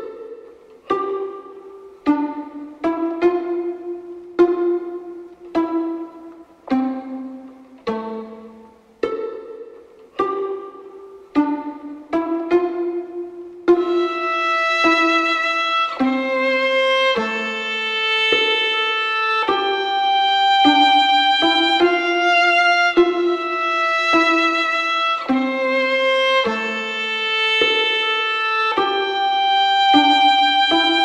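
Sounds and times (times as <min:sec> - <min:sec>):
slow violin melody: 0:00.0 - 0:31.0.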